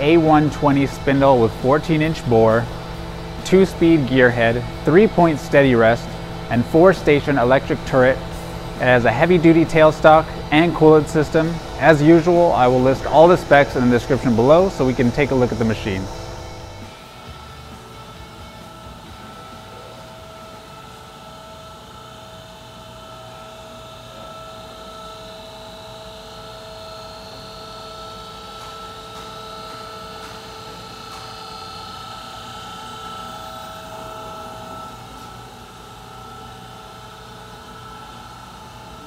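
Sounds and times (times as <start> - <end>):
shop machinery humming: 0.0 - 39.0
whining tones: 0.0 - 39.0.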